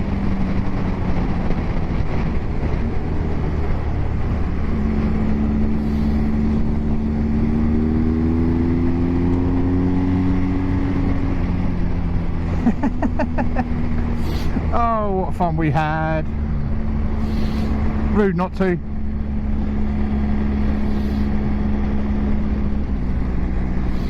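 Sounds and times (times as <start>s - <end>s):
heavy wind noise: 0.0s - 24.0s
motorcycle engine running: 0.0s - 24.0s.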